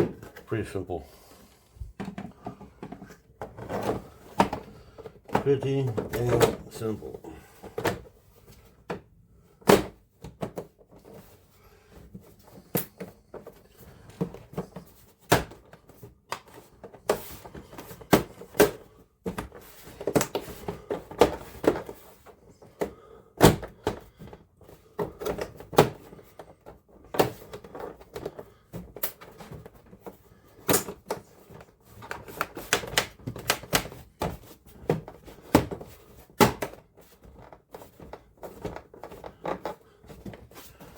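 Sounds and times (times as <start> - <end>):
plastic parts clicking and knocking: 1.8 - 6.8, 8.7 - 40.9.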